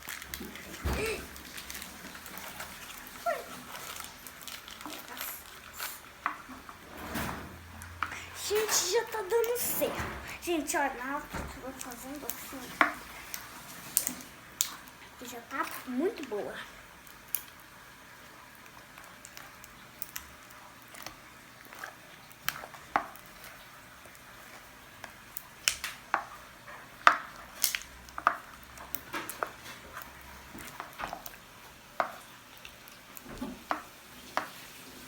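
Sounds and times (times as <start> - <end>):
slime squelching: 0.0 - 6.8, 7.8 - 17.6, 18.3 - 34.8.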